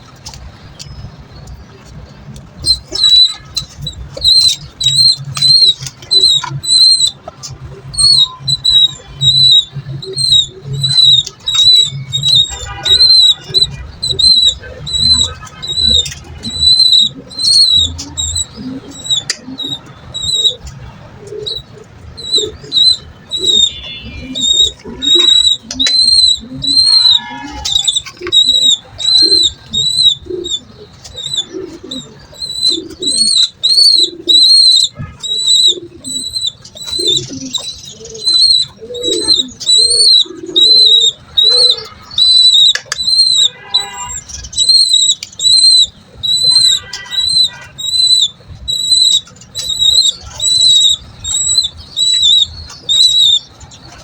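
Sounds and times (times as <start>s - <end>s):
pigeon squab peeping: 0.0s - 54.0s
pigeon cooing: 1.5s - 54.0s.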